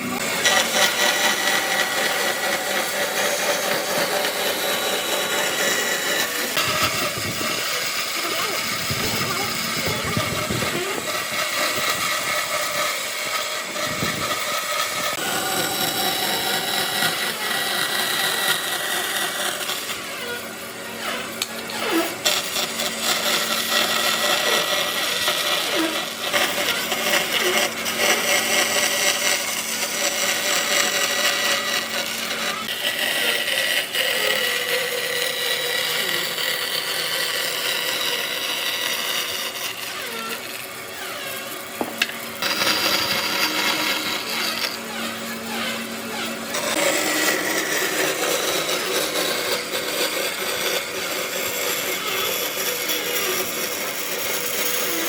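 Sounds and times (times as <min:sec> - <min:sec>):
power tool whining: 0:00.0 - 0:55.0
tool rasping on wood: 0:00.0 - 0:55.0.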